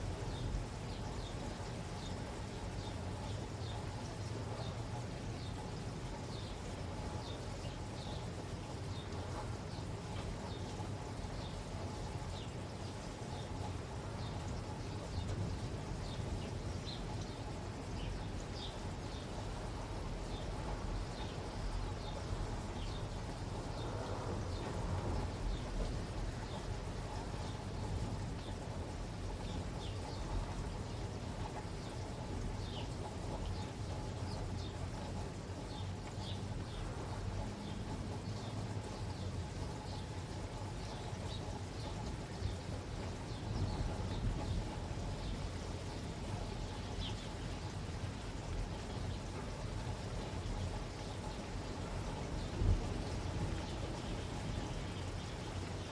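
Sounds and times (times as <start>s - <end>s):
low background noise: 0.0s - 55.9s
small birds chirping: 0.2s - 55.9s.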